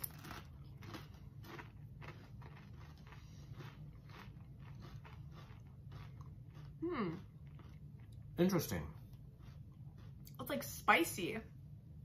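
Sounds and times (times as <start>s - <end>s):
tortilla chips being chewed: 0.0s - 10.4s.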